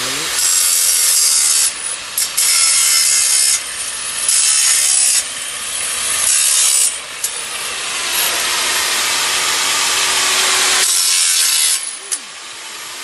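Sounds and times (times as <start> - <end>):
power saw cutting wood: 0.0 - 13.0.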